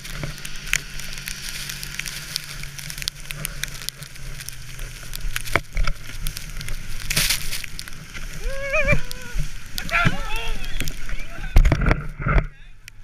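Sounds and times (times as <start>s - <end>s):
snow spray hitting camera: 0.0s - 11.8s
sled runners hissing over snow: 0.0s - 12.3s
snow clicking against camera: 0.0s - 13.0s
snowmobile engine hum: 0.0s - 13.0s.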